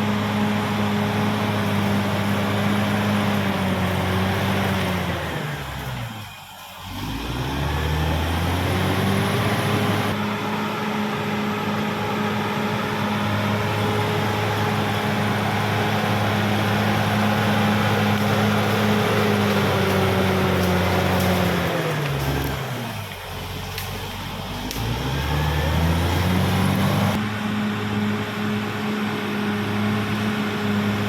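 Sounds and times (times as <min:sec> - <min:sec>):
bulldozer diesel engine: 0:00.0 - 0:31.0.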